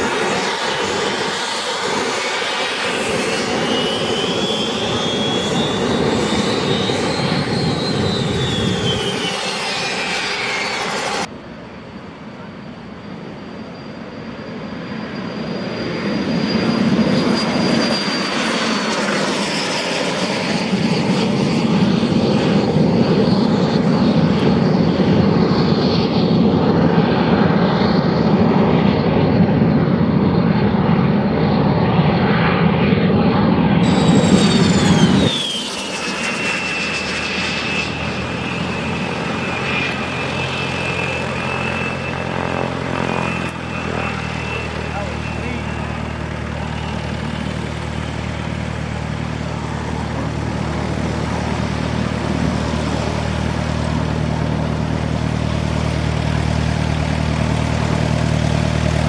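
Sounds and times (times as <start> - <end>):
jet engine whine: 0.0 - 59.0
loud jet roar: 0.0 - 59.0.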